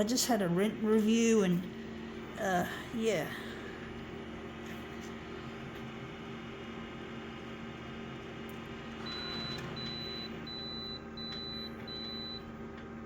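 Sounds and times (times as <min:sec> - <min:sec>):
photocopier humming: 0:00.0 - 0:13.0.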